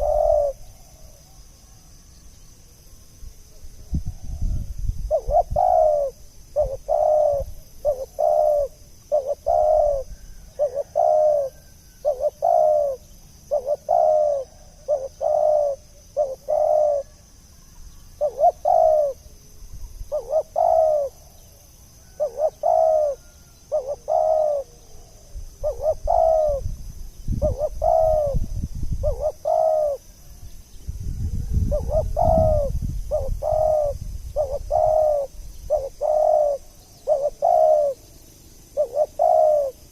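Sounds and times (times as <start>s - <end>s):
dove cooing: 0.0s - 1.8s, 3.8s - 17.3s, 17.9s - 26.8s, 27.4s - 30.4s, 31.4s - 38.1s, 38.7s - 39.9s.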